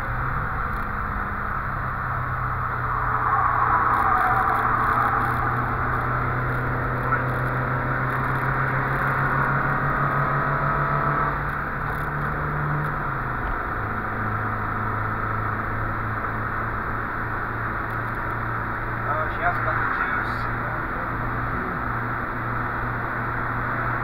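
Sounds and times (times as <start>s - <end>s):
car engine from inside cabin: 0.0s - 24.0s
tyre and road noise: 0.0s - 24.0s.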